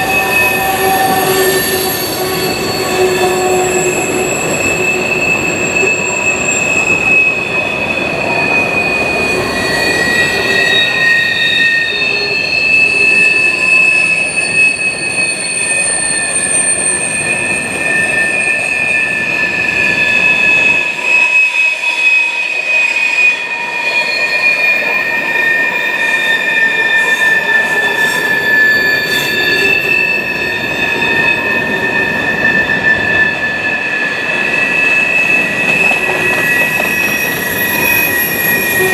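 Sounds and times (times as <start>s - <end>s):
train wheels rumbling on rails: 0.0s - 38.9s
train wheels squealing: 0.0s - 38.9s.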